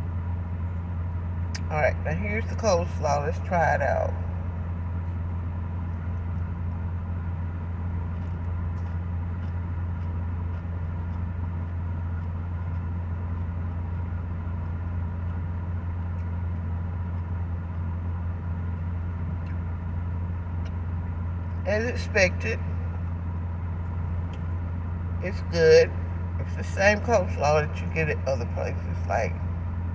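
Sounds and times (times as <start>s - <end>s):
air conditioning blowing: 0.0s - 29.9s
car engine idling: 0.0s - 29.9s.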